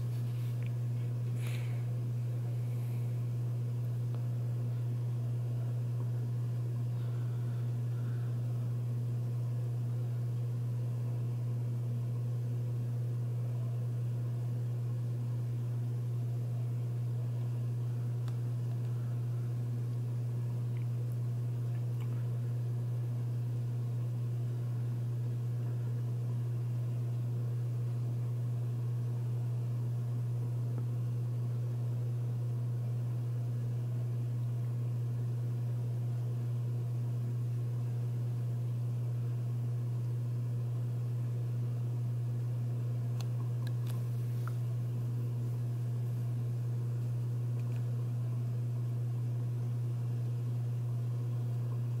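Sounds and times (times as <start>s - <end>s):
ceiling fan motor hum: 0.0s - 52.0s.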